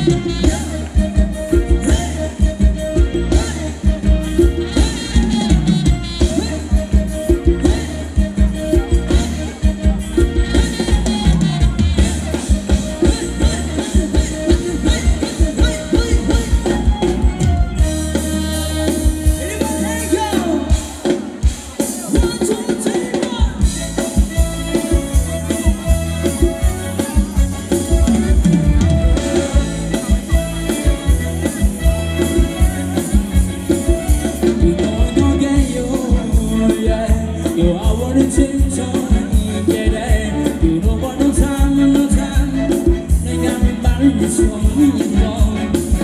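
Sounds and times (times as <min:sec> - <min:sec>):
live band playing dance music: 0:00.0 - 0:46.0
person singing: 0:00.0 - 0:46.0
steady drum beat: 0:00.0 - 0:46.0.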